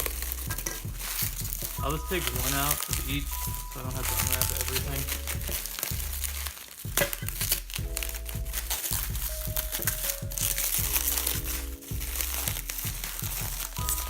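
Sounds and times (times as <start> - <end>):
background music with a beat: 0.0 - 14.0
plastic packaging crinkling: 0.0 - 14.0.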